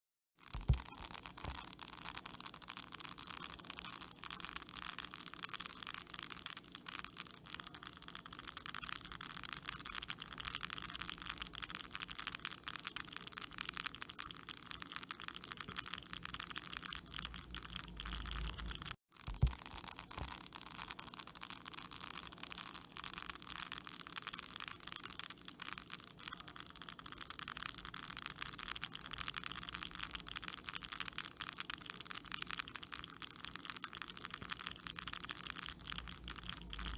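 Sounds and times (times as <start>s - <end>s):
termites crackling in wood: 0.4s - 36.9s.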